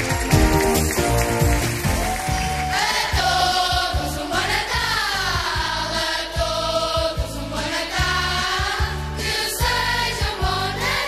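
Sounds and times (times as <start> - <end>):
instrumental theme music with bass beat: 0.0 - 11.0.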